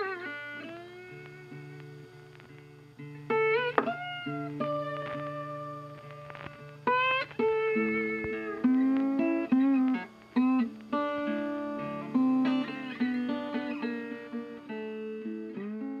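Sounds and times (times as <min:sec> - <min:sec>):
plucked acoustic guitar melody: 0:00.0 - 0:16.0.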